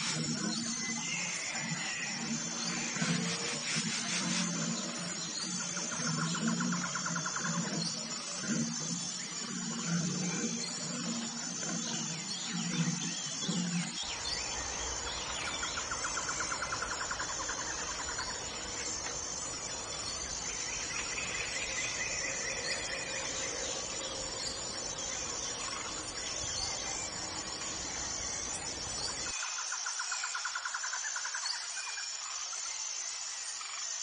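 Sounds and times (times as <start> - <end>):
outdoor background noise: 0.0 - 34.0
songbirds chirping: 0.2 - 29.3.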